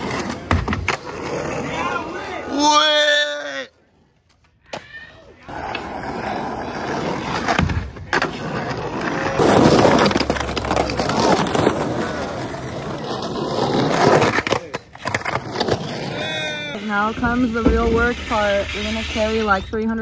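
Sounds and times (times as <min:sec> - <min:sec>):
skateboards clacking on concrete: 0:00.0 - 0:02.3, 0:04.3 - 0:18.6
skateboards rolling on asphalt: 0:00.0 - 0:02.8, 0:03.7 - 0:19.6.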